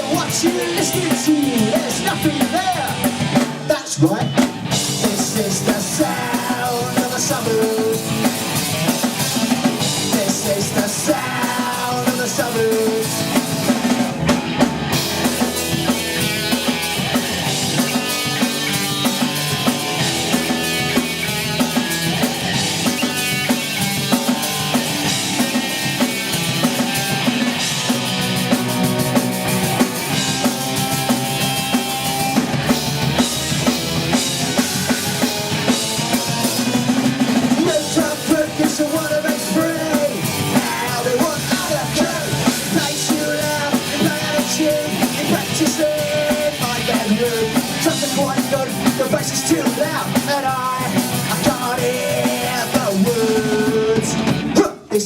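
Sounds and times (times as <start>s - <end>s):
bass guitar: 0.0s - 55.0s
drum kit pounding: 0.0s - 55.0s
electric guitar: 0.0s - 55.0s.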